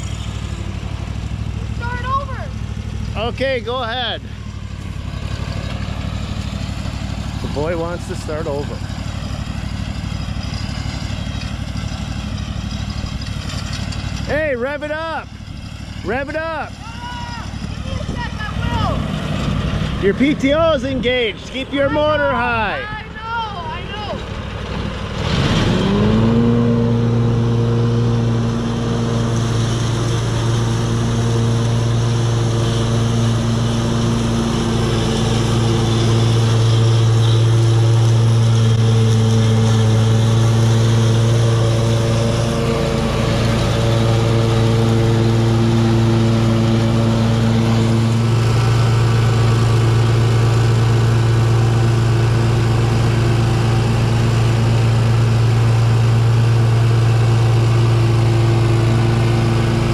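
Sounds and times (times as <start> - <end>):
blades cutting grass: 0.0 - 22.9, 24.2 - 59.9
mower engine running: 0.0 - 59.9.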